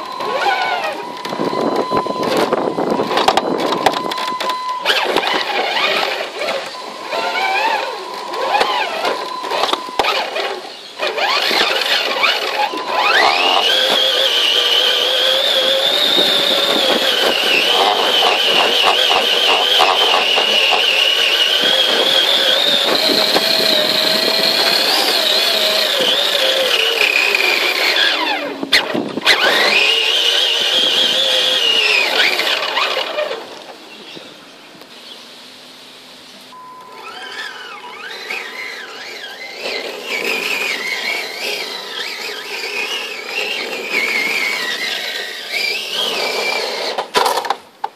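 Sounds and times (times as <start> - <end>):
electric motors whining: 0.0 - 35.2, 36.5 - 47.9.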